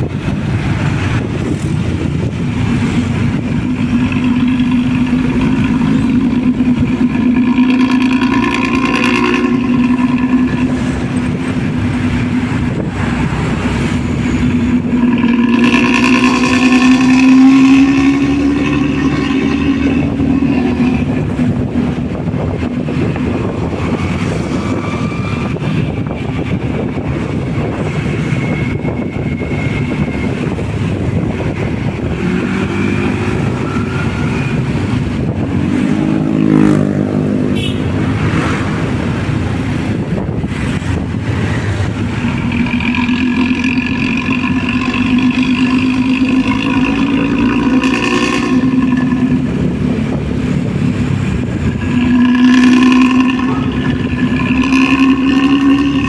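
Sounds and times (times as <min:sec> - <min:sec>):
diesel bus engine growling: 0:00.0 - 0:56.0.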